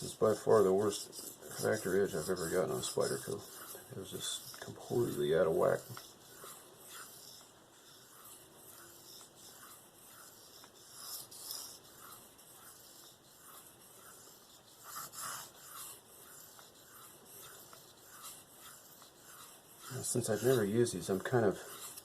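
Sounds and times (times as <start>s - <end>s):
knife scraping on sharpening stone: 0.6s - 20.7s, 21.6s - 22.0s.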